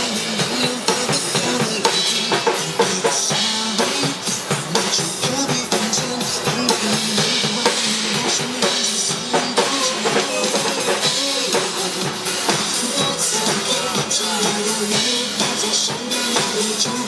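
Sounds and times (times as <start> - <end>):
drum kit beat: 0.0 - 17.0
live band playing pop: 0.0 - 17.0.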